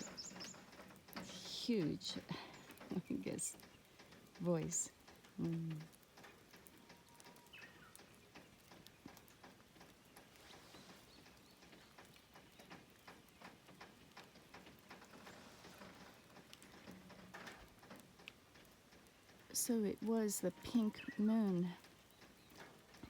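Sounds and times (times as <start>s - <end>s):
light rain patter: 0.0s - 23.0s.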